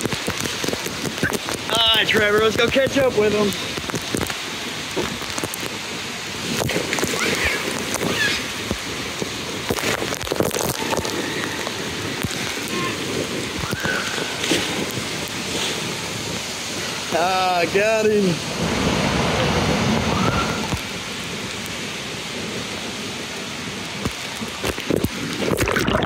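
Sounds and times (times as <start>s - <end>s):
water splashing: 0.0s - 26.0s
water spraying from fountains: 0.0s - 26.0s.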